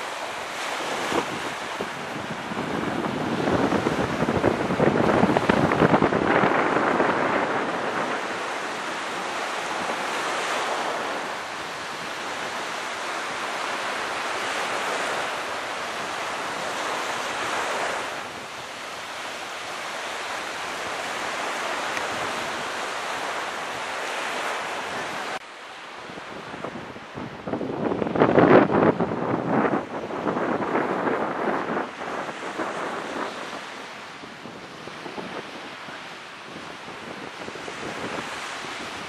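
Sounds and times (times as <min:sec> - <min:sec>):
small waves breaking on beach: 0:00.0 - 0:39.0
wind: 0:00.0 - 0:39.0.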